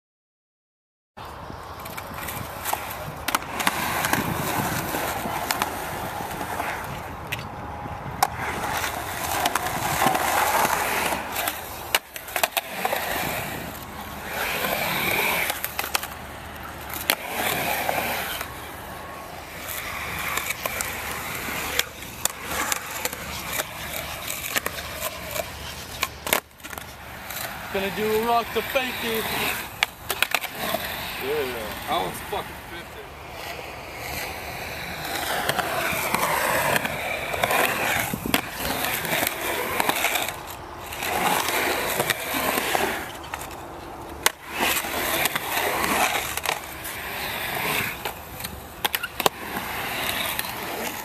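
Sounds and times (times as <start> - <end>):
skateboard wheels rolling on concrete: 1.2 - 51.0
skateboard clacking on ground: 1.7 - 51.0.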